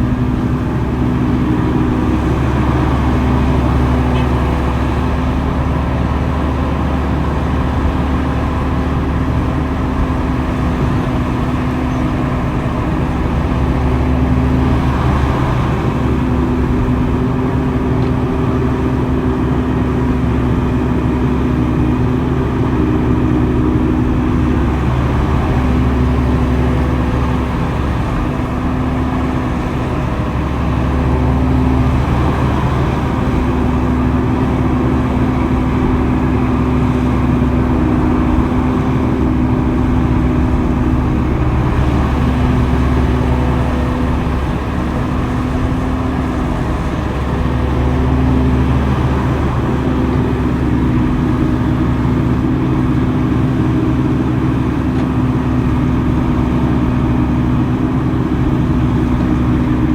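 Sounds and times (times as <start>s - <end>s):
heavy machinery engine: 0.0s - 59.9s.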